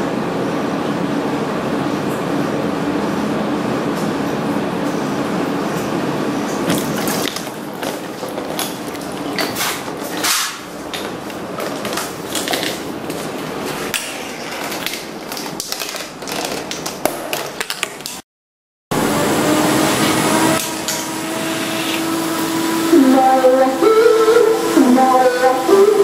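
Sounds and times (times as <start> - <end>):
steady noisy background: 0.0 - 18.2, 19.0 - 26.0.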